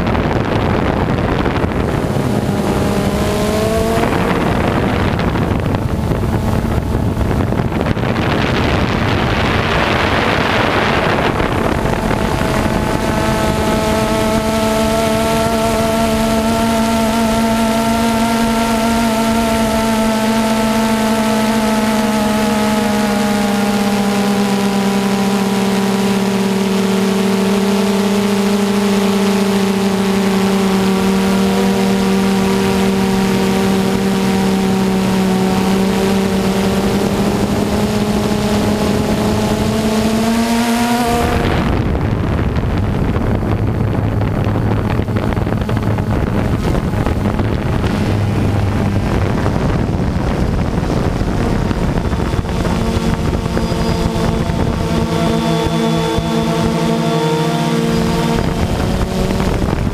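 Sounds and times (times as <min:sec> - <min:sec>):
drone motors humming: 0:00.0 - 0:59.9
wind on microphone: 0:00.0 - 0:59.9.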